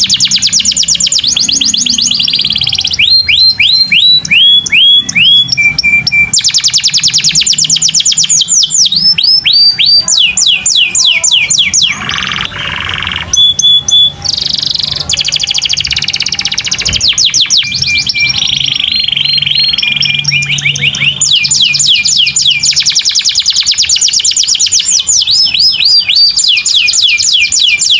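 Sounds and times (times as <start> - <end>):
canary singing trills: 0.0 - 27.9.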